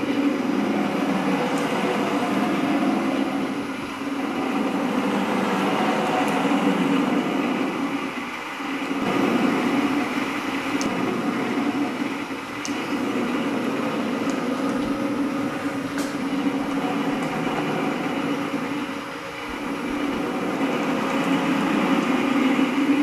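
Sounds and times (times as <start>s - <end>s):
motor hum and rumble: 0.0s - 23.0s.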